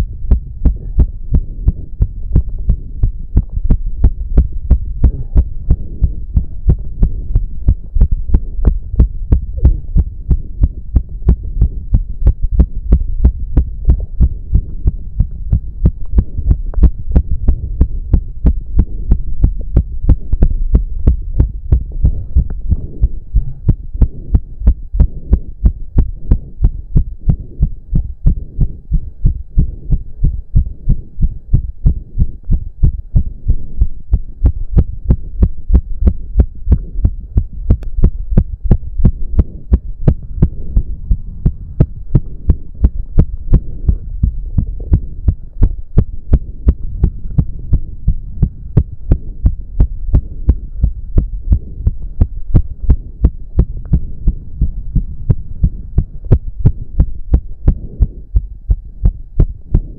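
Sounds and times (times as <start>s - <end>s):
heart pounding fast: 0.0s - 59.9s.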